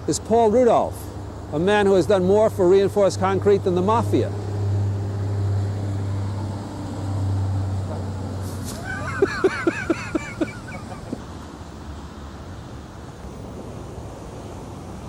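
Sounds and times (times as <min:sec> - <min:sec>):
steady low hum: 0:01.0 - 0:15.0.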